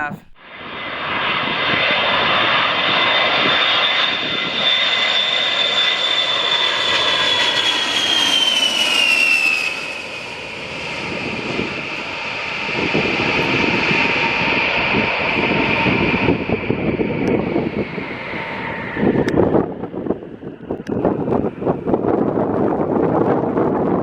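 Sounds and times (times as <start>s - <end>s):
jet flying past: 0.4s - 21.9s.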